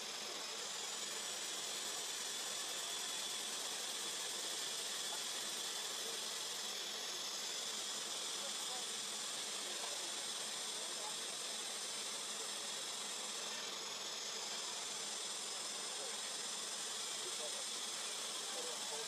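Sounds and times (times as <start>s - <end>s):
forest insects buzzing: 0.0s - 19.0s.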